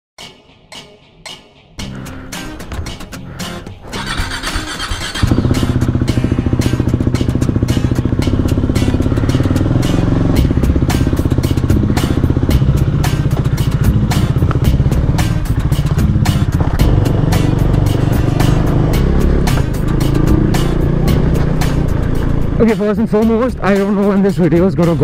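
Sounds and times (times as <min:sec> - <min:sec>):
motorcycle engine running: 0:01.8 - 0:25.0.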